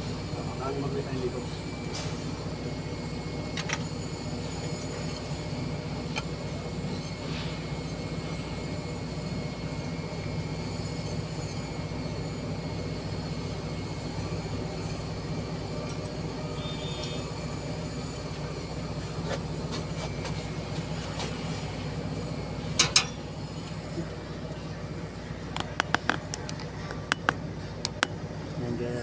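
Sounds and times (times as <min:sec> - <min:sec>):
heavy diesel engine rumbling: 0:00.0 - 0:29.0.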